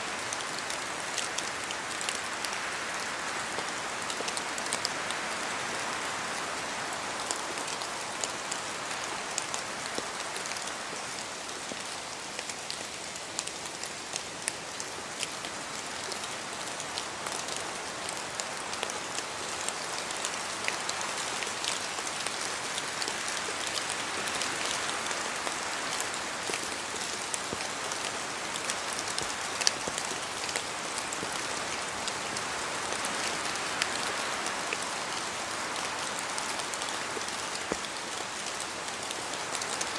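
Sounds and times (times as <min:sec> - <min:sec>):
steady rain in a forest: 0:00.0 - 0:39.9.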